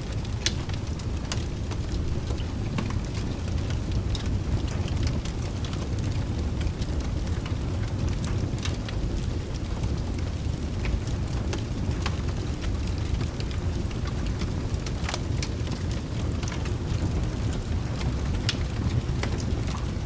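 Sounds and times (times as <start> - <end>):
low thunder rumble: 0.0 - 20.0
rain: 0.0 - 20.0
wood fire crackling: 0.0 - 20.0.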